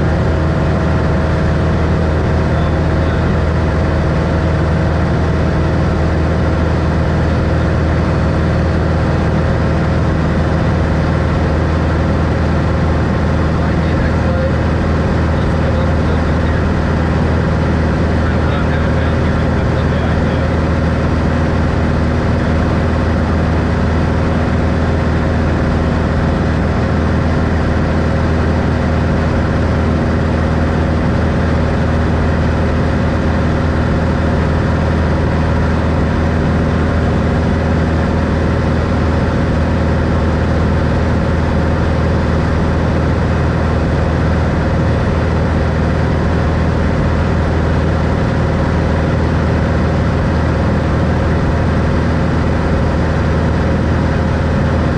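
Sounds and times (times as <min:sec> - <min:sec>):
aircraft engine and propeller: 0:00.0 - 0:54.9.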